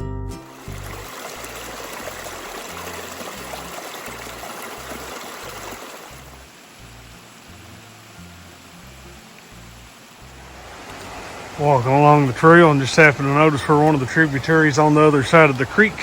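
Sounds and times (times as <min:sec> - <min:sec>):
creek water rushing over cascades: 0:00.4 - 0:16.0.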